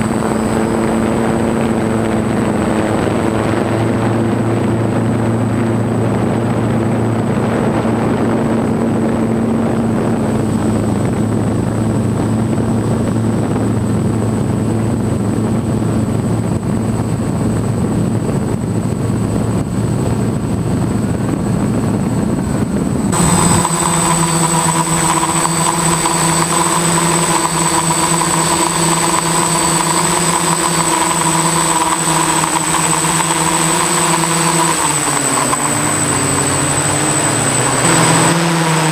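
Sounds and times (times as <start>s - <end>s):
drone motors and propellers: 0.0s - 38.9s.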